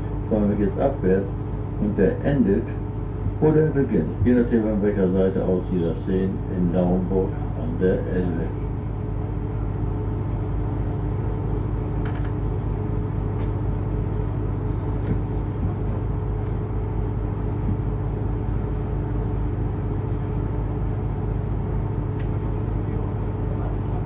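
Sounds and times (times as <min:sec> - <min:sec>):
boat engine drone: 0:00.0 - 0:24.0
faint steady hum: 0:00.0 - 0:24.0.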